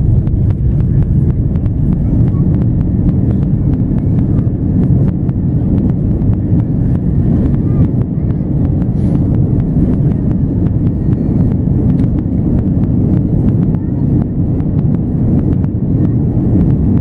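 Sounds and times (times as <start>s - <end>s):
airplane cabin low rumble: 0.0s - 17.0s.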